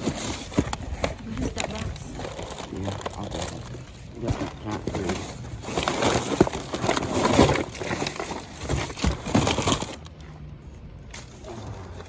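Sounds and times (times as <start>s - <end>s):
trash rustling and crunching: 0.0s - 12.0s.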